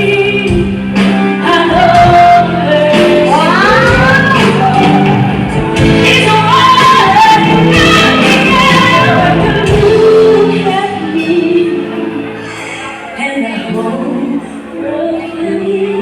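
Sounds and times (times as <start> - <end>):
band backing: 0.0 - 16.0
woman singing pop song: 0.0 - 16.0.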